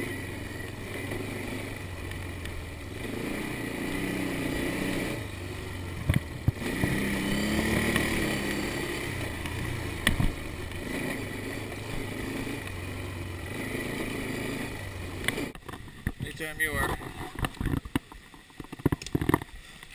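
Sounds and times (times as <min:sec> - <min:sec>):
road noise: 0:00.0 - 0:19.9
vehicle engine humming: 0:00.0 - 0:19.9.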